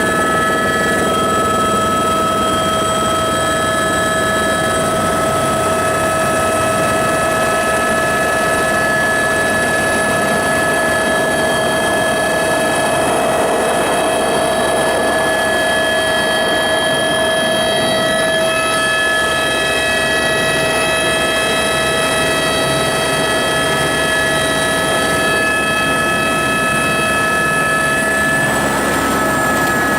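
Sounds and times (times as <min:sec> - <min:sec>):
helicopter turbine and rotor drone: 0:00.0 - 0:29.9
high-pitched whining tones: 0:00.0 - 0:29.9.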